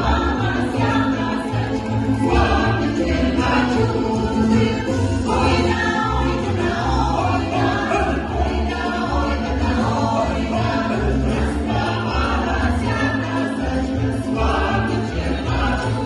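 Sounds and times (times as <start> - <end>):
choir singing: 0.0 - 16.0
pulsing bass accompaniment: 0.0 - 16.0.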